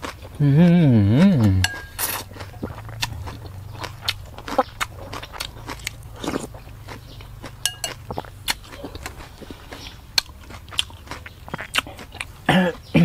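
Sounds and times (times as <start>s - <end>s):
person chewing and biting: 0.0s - 0.4s, 1.1s - 12.9s
sharp crunching: 1.3s - 13.0s
wet mouth clicks: 1.4s - 12.4s.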